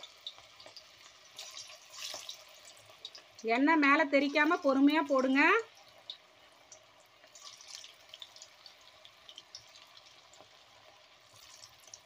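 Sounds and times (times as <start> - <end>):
food deep-frying in oil: 0.0 - 12.0
oil crackles and pops: 0.0 - 12.0.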